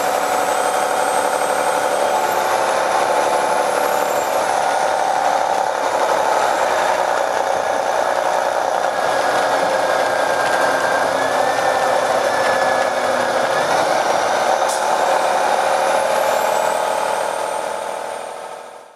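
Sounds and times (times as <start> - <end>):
diesel bus engine drone: 0.0 - 18.9.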